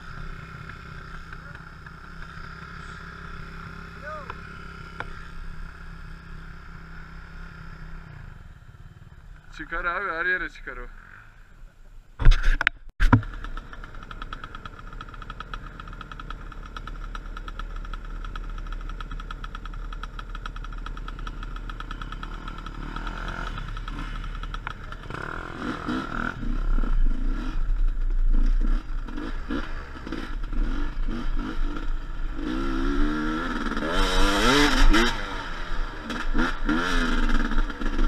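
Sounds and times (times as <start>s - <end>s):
motorcycle engine revving: 0.0s - 9.6s, 13.0s - 38.0s.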